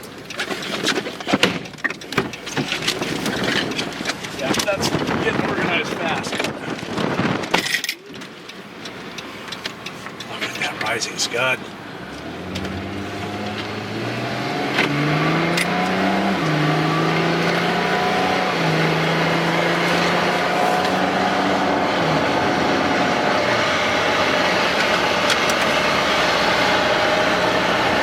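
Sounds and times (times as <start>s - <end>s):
road and wind noise: 0.0s - 28.0s
car engine accelerating: 2.2s - 7.6s, 8.3s - 28.0s.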